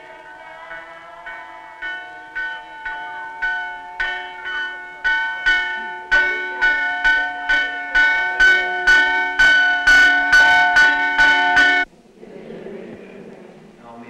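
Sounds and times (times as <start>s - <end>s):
church bell ringing: 0.0s - 11.9s.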